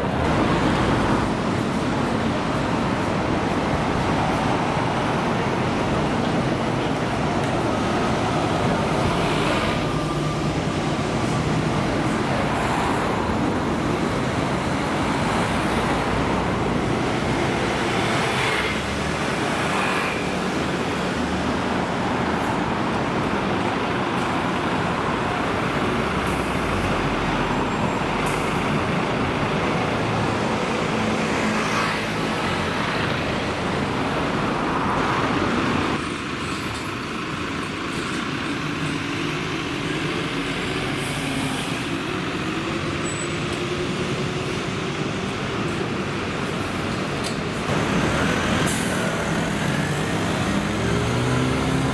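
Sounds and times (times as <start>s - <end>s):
bus engine pulling away: 0.0s - 51.9s
buses driving past: 0.0s - 51.9s
cars passing: 0.0s - 51.9s.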